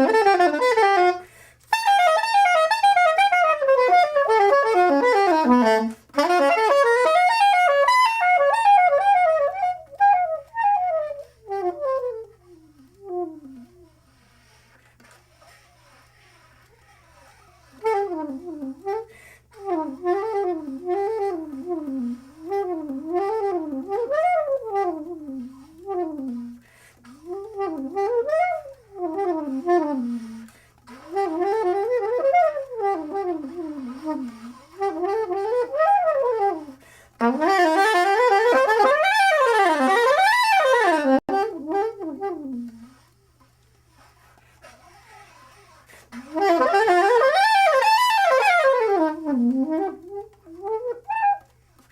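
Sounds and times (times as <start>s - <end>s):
soprano saxophone runs: 0.0s - 51.9s.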